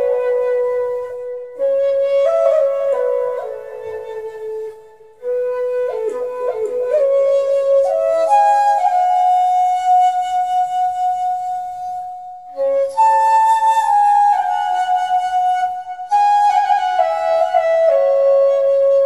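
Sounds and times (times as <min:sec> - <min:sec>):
flute melody: 0:00.0 - 0:19.0.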